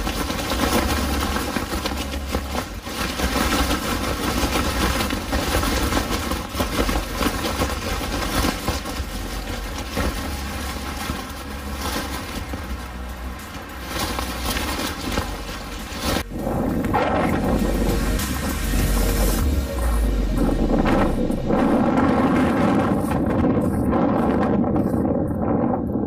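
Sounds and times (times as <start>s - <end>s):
nylon tent fly flapping: 0.0s - 26.0s
wind buffeting a tent: 0.0s - 26.0s.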